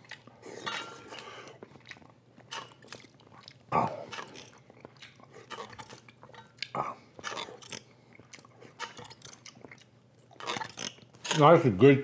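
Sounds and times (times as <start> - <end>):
person chewing: 0.0 - 11.3.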